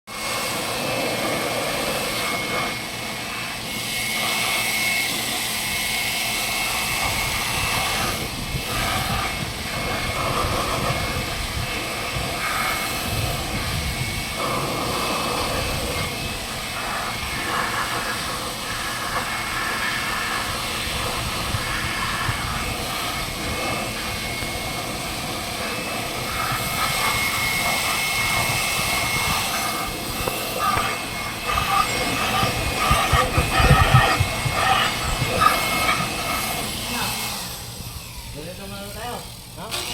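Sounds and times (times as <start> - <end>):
machine high whine and hiss: 0.1 - 39.9.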